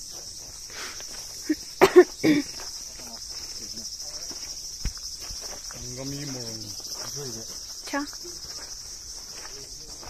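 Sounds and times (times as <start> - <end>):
insects shrilling: 0.0 - 10.0.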